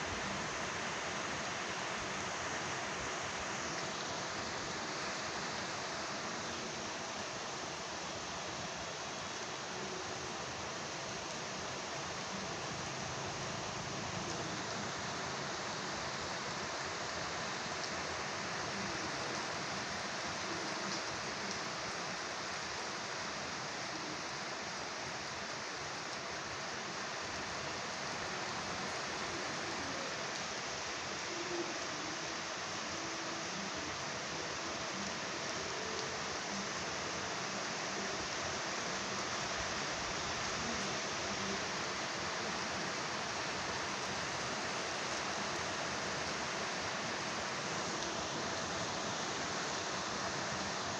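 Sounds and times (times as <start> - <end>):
light rain falling: 0.0 - 50.9.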